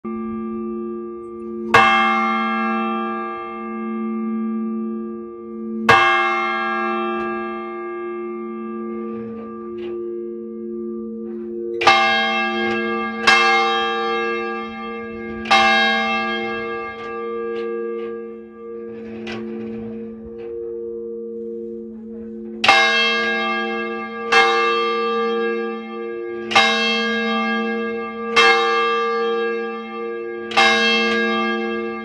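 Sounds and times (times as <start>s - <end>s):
church bell strikes: 0.0s - 32.0s
hum of low bell tones: 0.0s - 32.0s.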